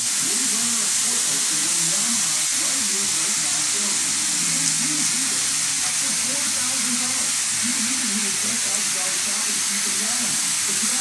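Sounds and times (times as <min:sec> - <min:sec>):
soldering iron gas hissing: 0:00.0 - 0:11.0.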